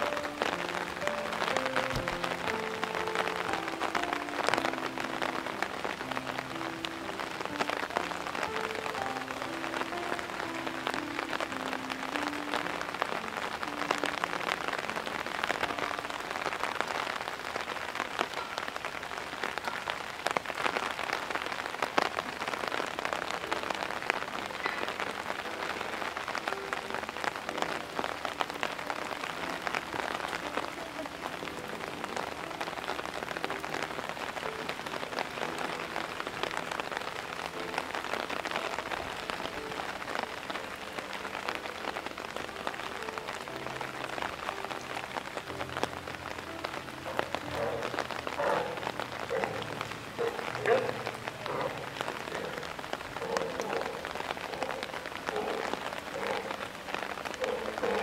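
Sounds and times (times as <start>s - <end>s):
faint background music: 0.0s - 58.0s
heavy rain falling: 0.0s - 58.0s.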